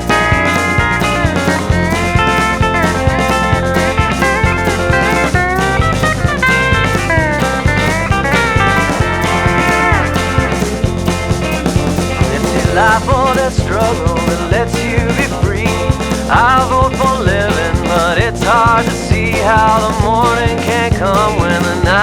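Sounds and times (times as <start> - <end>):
bass guitar: 0.0 - 22.0
drum-kit beat: 0.0 - 22.0
lead electric guitar: 0.0 - 22.0.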